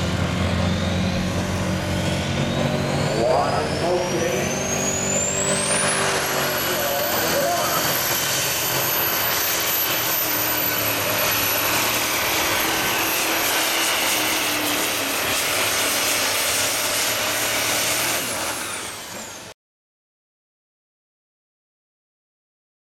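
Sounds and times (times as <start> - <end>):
diesel engine running under load: 0.0 - 19.6
high turbo whistle: 0.5 - 19.5.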